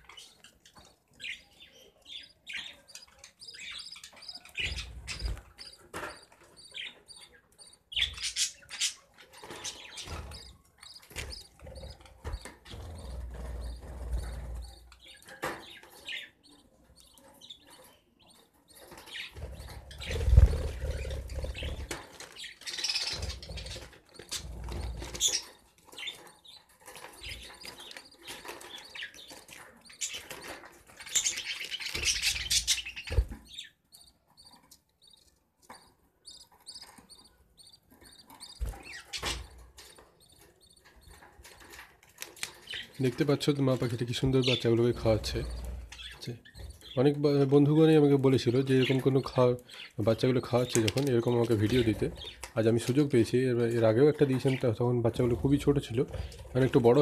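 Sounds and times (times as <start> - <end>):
budgerigars chirping: 0.0 - 53.2, 53.8 - 57.0.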